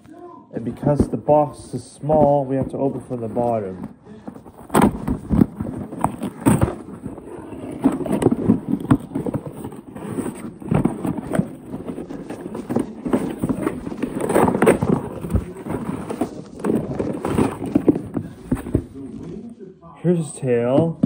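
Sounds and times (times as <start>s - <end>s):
cardboard scraping and rustling: 0.6s - 19.5s.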